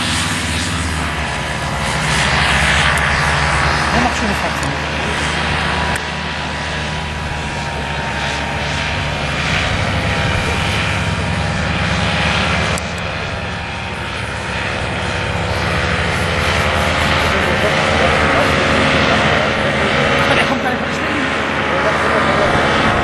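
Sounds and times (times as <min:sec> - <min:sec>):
paramotor engines running: 0:00.0 - 0:23.0.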